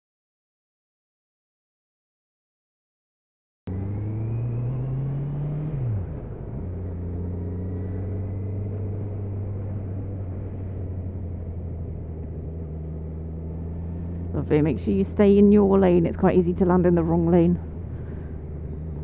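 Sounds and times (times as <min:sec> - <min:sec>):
motorcycle engine revving: 0:03.7 - 0:19.0
road and wind noise: 0:03.7 - 0:19.0.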